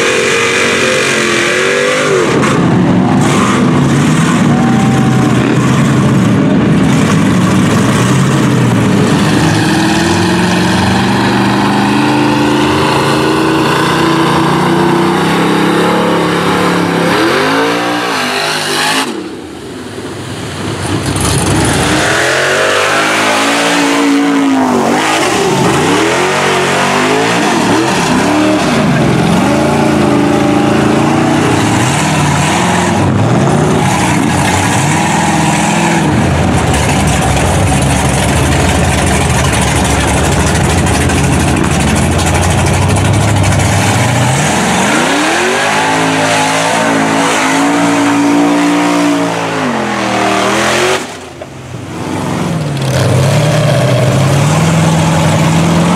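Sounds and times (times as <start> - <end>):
truck engine revving hard: 0.0 - 55.9.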